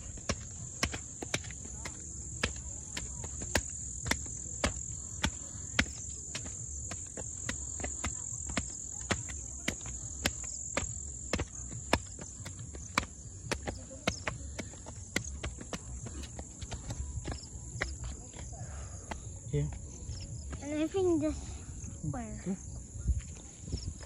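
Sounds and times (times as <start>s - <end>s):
footsteps on concrete steps: 0.0s - 24.0s.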